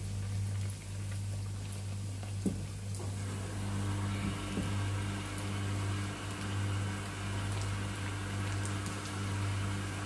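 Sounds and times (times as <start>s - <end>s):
oil sizzling and crackling: 0.0s - 10.0s.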